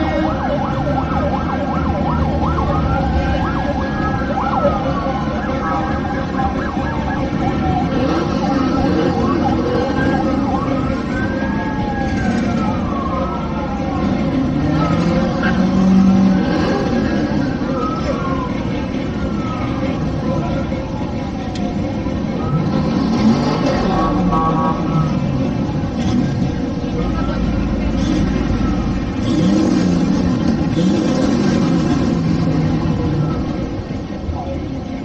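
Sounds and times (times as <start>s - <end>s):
emergency sirens wailing: 0.0s - 35.0s
vehicle engines running: 0.0s - 35.0s.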